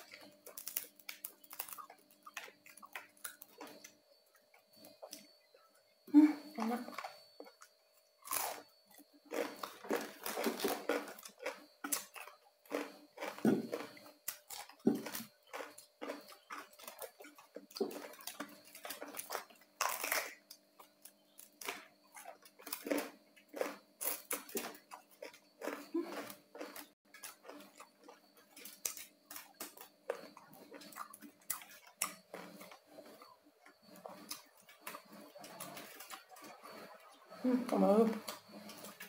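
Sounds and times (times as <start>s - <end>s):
crunchy chewing: 0.0s - 5.9s, 6.6s - 39.0s.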